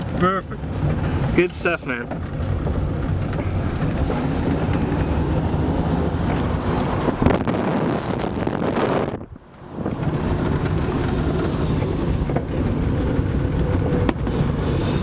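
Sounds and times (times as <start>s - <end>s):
road and tyre noise: 0.0s - 15.0s
wind noise: 2.5s - 15.0s.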